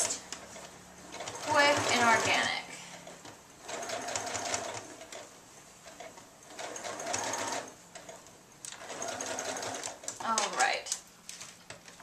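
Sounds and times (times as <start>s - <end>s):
sewing machine stitching: 0.4s - 10.6s.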